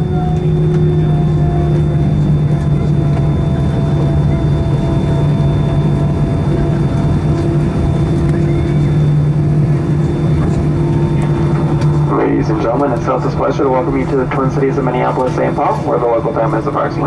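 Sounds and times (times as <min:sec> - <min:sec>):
aircraft cabin low hum: 0:00.0 - 0:17.0.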